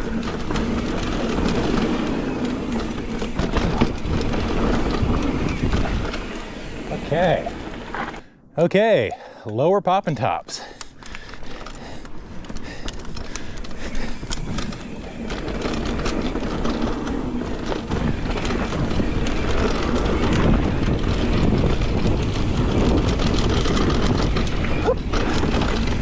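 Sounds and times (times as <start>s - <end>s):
bike rattling clicks: 0.0s - 8.2s, 10.7s - 26.0s
tyre and wind rush: 0.0s - 8.2s, 11.0s - 26.0s.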